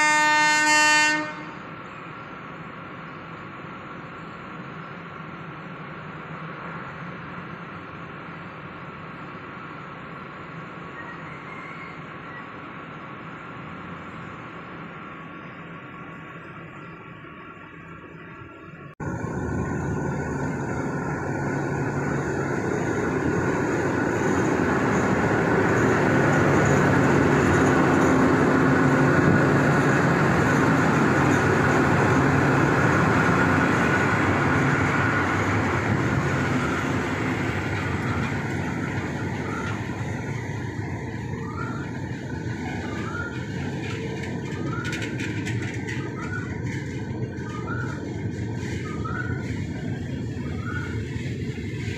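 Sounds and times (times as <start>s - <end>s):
carriages rolling on rails: 0.0s - 51.9s
diesel engine rumble: 1.6s - 51.9s.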